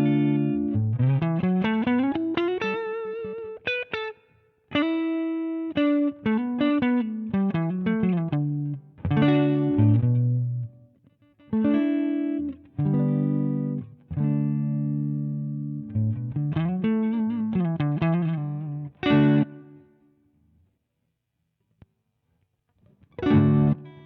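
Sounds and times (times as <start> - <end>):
overdriven electric guitar: 0.0 - 19.9, 22.8 - 24.0.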